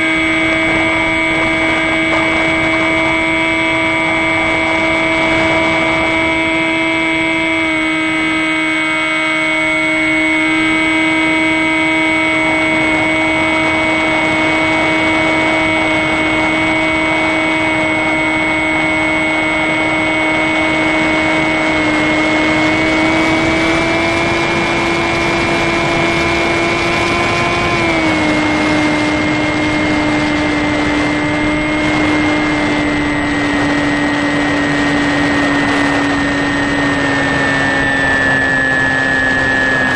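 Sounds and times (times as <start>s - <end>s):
electric motor propeller whine: 0.0s - 39.9s
rushing air: 0.0s - 39.9s.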